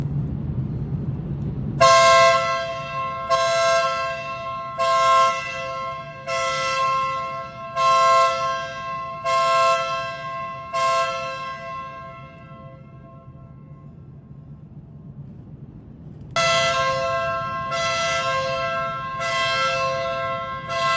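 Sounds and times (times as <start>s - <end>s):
low steady rumble: 0.0s - 20.9s
air horn blasts: 1.8s - 14.0s, 16.3s - 20.9s.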